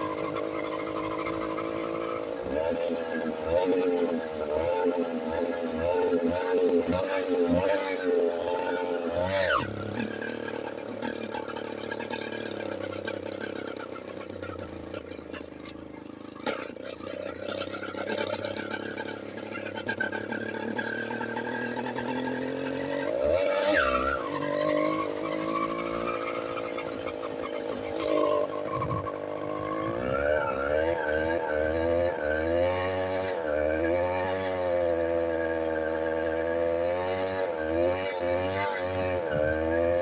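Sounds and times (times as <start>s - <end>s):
small motorbike engine droning: 0.0s - 40.0s.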